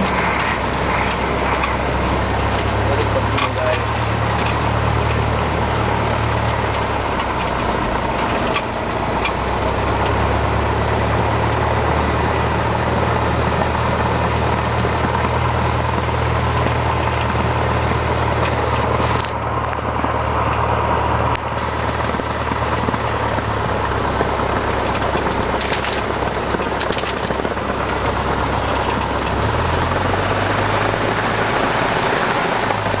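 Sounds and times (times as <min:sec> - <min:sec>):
small plane engine drone: 0:00.0 - 0:33.0.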